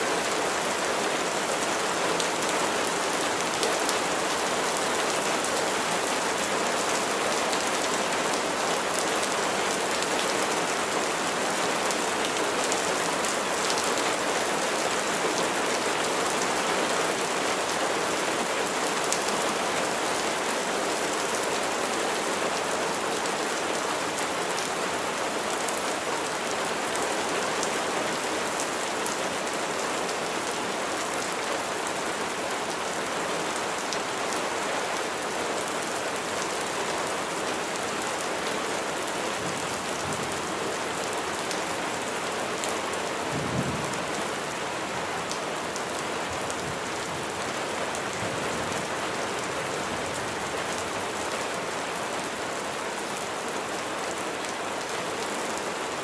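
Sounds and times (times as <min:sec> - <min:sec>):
rain pattering: 0:00.1 - 0:56.0.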